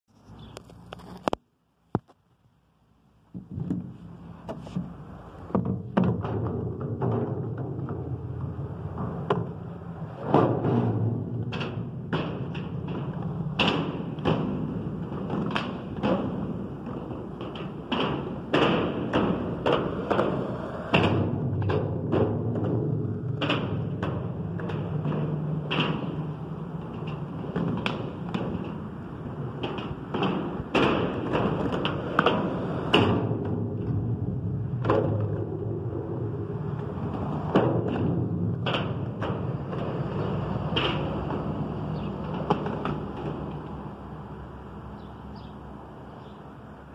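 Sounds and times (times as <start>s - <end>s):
skateboard wheels on concrete: 0.1s - 2.2s, 3.3s - 46.9s
skateboard clacking on surface: 4.5s - 43.8s.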